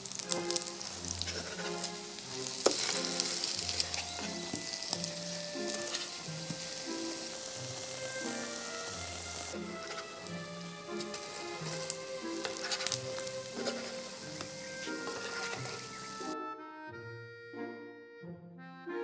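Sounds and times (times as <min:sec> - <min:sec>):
eggplant frying in oil: 0:00.0 - 0:16.4
soft background music: 0:00.0 - 0:19.0.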